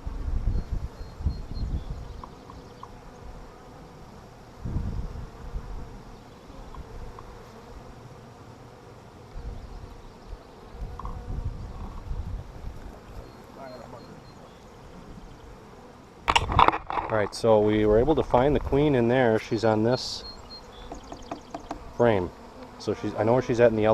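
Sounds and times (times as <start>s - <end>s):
bees buzzing: 0.0s - 23.9s.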